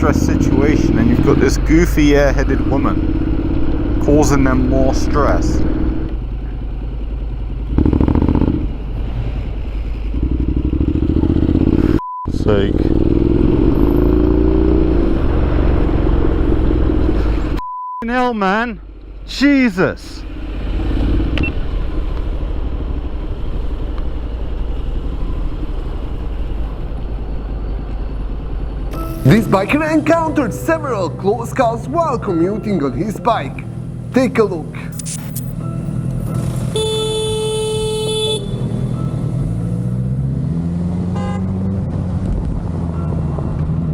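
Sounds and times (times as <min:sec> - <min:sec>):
motorcycle engine revving: 0:00.0 - 0:17.6, 0:20.2 - 0:43.9
road noise: 0:00.0 - 0:43.9
vehicle rumble: 0:00.0 - 0:43.9.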